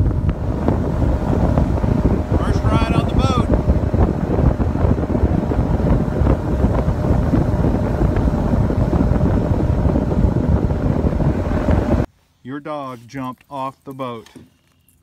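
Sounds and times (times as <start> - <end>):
boat motor: 0.0 - 12.1
water noise: 0.0 - 12.1
wind buffeting microphone: 0.0 - 12.1.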